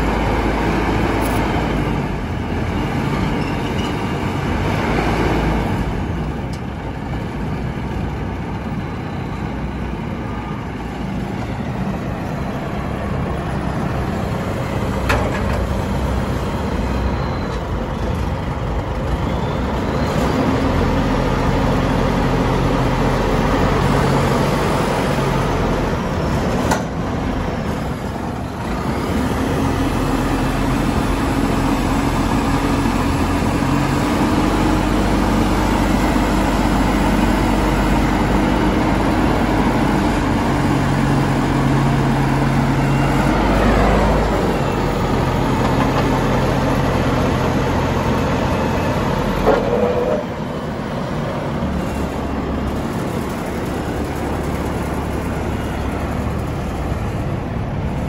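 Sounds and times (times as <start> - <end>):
harvester engine idling: 0.0 - 58.0.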